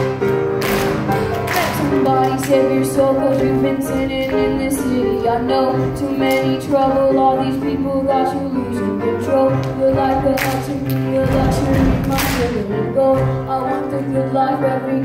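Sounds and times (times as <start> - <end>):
pop song with female vocal: 1.2 - 15.0.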